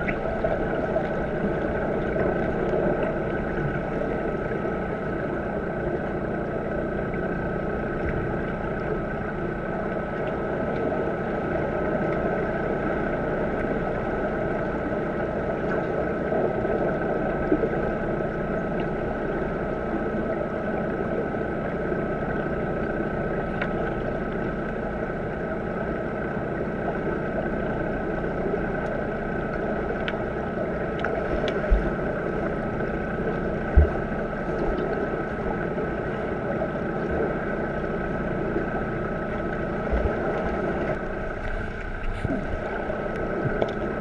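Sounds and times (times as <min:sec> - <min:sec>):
underwater water rushing: 0:00.0 - 0:44.0.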